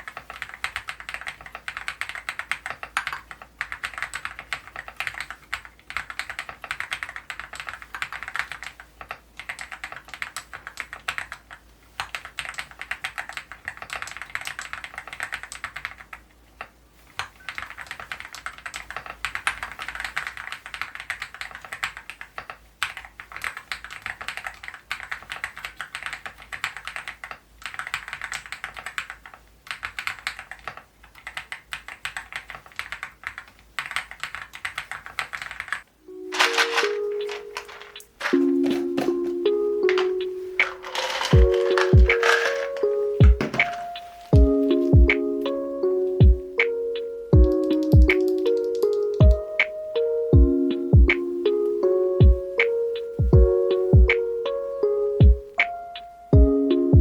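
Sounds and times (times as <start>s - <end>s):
mechanical keyboard typing: 0.0s - 16.3s, 17.2s - 45.2s, 47.4s - 49.4s.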